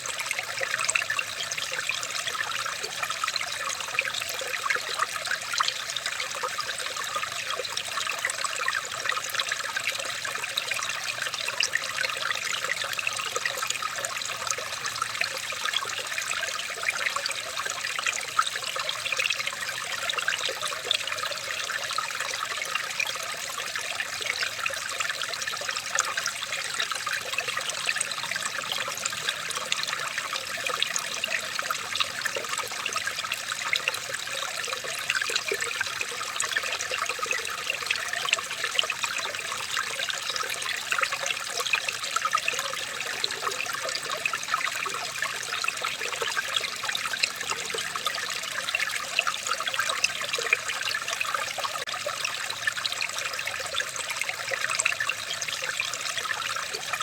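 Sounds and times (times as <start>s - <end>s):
water trickling: 0.0s - 57.0s.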